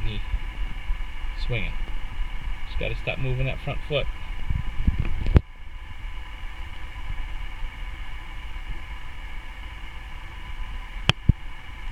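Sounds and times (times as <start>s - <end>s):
thin steady hum: 0.0s - 11.9s.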